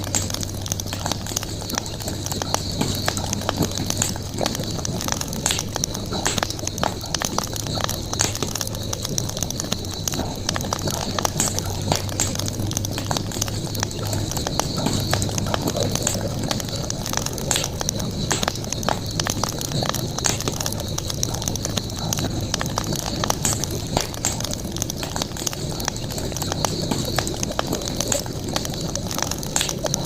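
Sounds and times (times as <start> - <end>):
campfire crackling and popping: 0.0 - 30.0
high-pitched hiss: 0.0 - 30.0
steady low rumble: 0.0 - 30.0.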